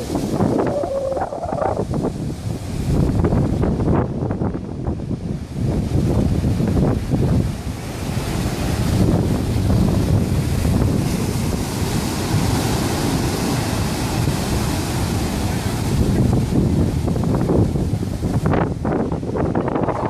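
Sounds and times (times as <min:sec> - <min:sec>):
surf breaking over rocks: 0:00.0 - 0:04.5, 0:05.5 - 0:20.0
wind buffeting microphone: 0:00.0 - 0:20.0.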